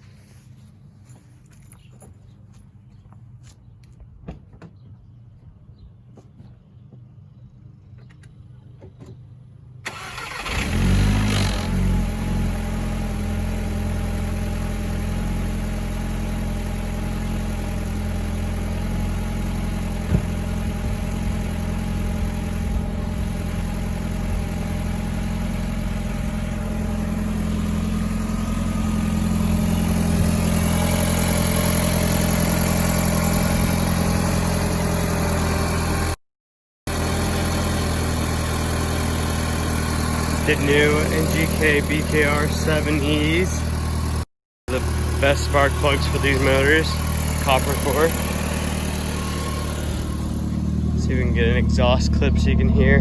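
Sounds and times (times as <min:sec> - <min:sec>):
car engine starting and idling: 0:08.2 - 0:36.2, 0:36.9 - 0:53.0.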